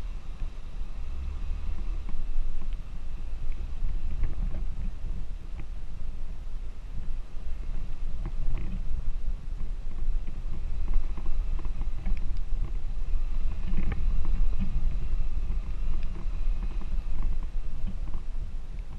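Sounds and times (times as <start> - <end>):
off-road vehicle rumble: 0.0 - 18.9.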